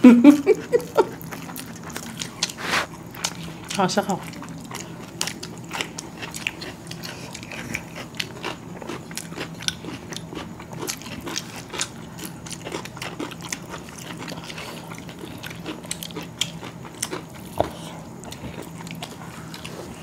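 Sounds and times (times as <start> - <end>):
people chewing food: 0.2 - 20.0.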